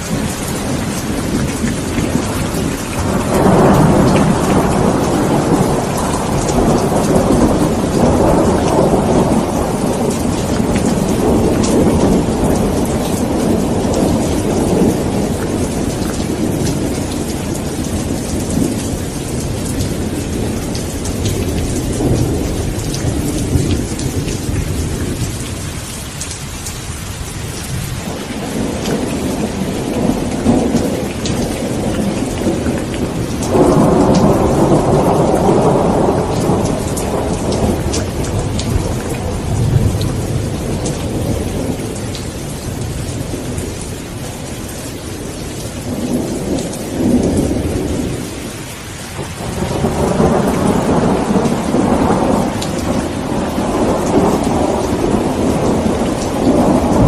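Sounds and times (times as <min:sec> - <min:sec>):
heavy rain: 0:00.0 - 0:57.0
rolling thunder: 0:00.0 - 0:57.0.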